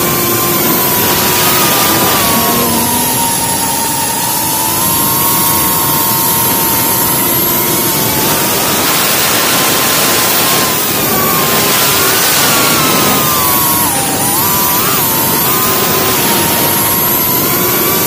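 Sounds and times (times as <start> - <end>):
drone motors whining: 0.0 - 18.0
rush of wind: 0.0 - 18.0.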